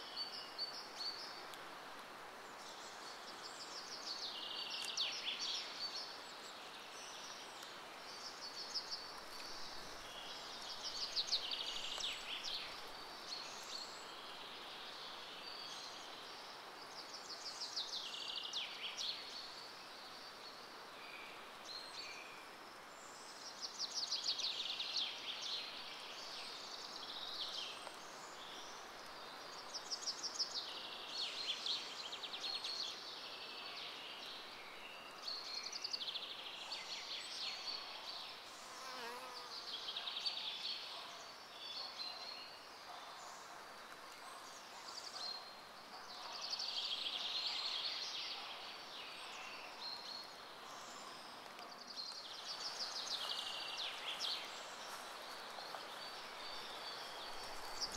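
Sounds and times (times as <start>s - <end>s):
faint steady hiss: 0.0s - 57.9s.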